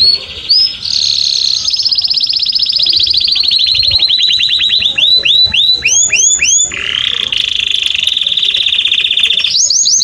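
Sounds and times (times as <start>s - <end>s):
canary singing a trill: 0.0s - 10.0s.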